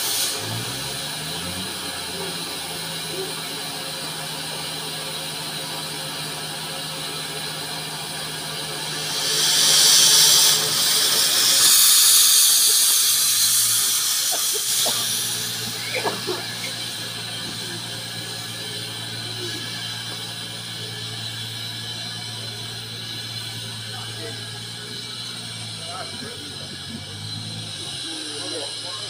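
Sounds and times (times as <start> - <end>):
steam hissing: 0.0 - 29.0.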